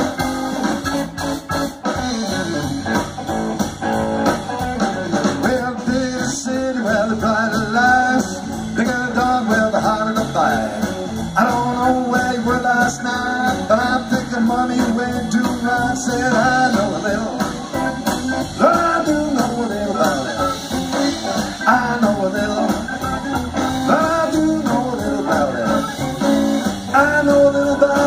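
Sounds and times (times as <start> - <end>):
electric guitars: 0.0 - 28.0
man singing: 1.8 - 3.1, 4.5 - 28.0.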